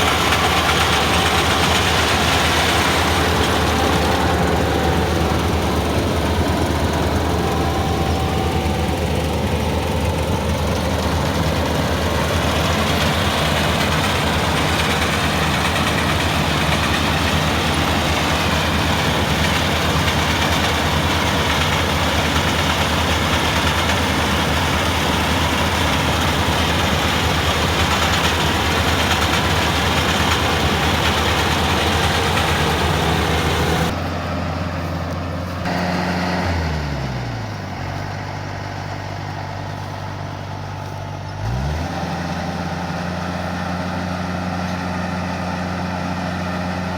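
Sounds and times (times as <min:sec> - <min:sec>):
farm machine engine running: 0:00.0 - 0:46.9.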